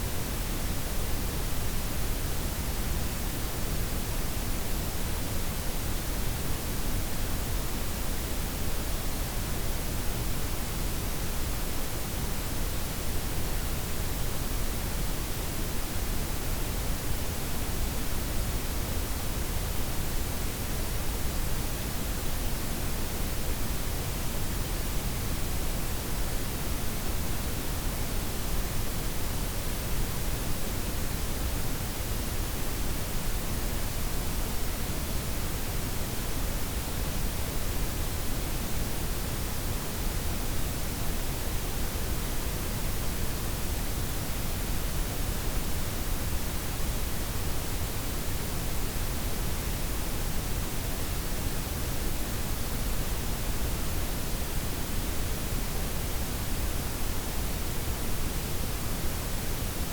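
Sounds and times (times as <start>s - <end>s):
steady noise hiss: 0.0s - 59.9s.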